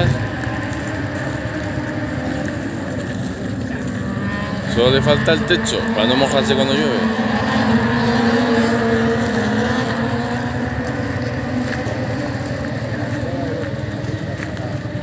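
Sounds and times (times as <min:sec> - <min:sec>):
crowd murmur: 0:00.0 - 0:15.0
motorcycle engine droning: 0:00.0 - 0:15.0.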